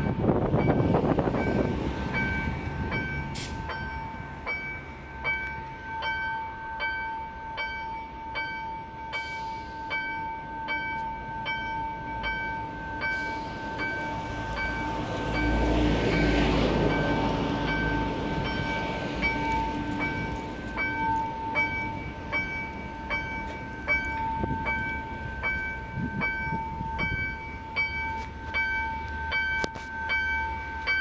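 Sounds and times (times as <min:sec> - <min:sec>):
bus engine rumble: 0:00.0 - 0:06.4, 0:12.6 - 0:31.0
level-crossing warning bell: 0:00.0 - 0:31.0
passing traffic: 0:00.0 - 0:31.0.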